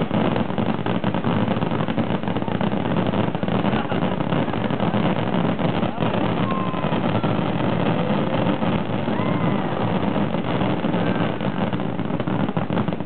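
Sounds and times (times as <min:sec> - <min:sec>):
fireworks bursts rumbling: 0:00.0 - 0:13.0
fireworks crackling: 0:00.0 - 0:13.0.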